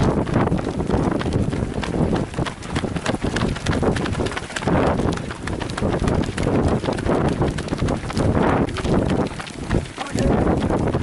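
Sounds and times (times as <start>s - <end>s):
running footsteps on asphalt: 0.0s - 11.0s.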